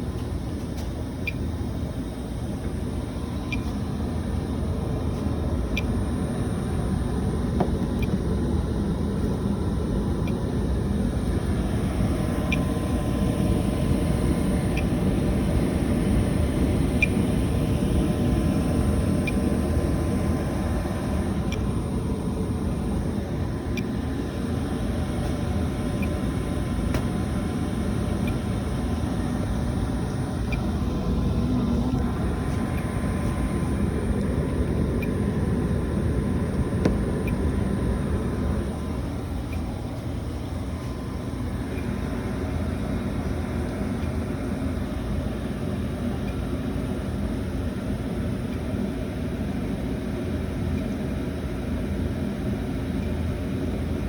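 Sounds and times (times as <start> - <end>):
gas furnace roaring: 0.0 - 54.0.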